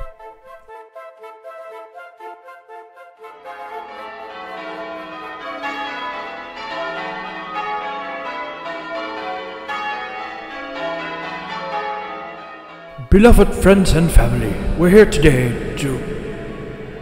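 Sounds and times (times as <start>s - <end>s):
church bells pealing: 3.2s - 17.0s.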